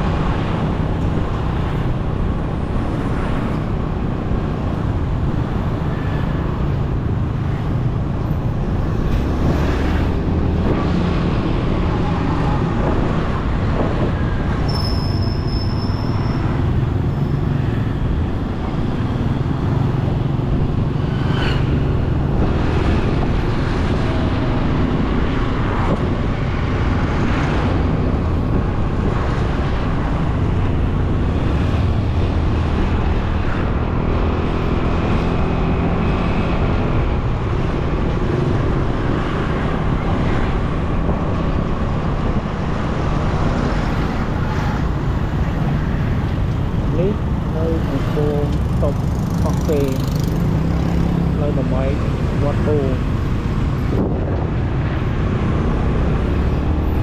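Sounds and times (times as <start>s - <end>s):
wind rushing on camera: 0.0s - 57.0s.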